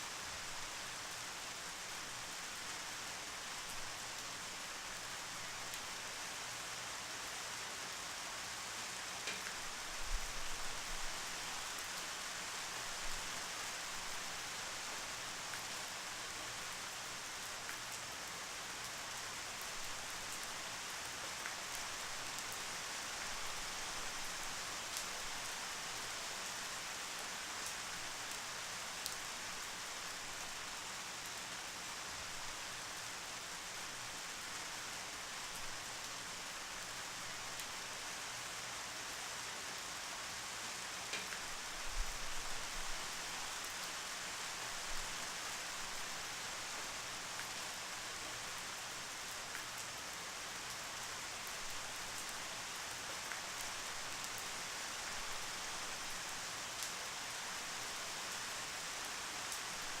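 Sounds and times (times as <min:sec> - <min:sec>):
steady rainfall: 0:00.0 - 1:00.0.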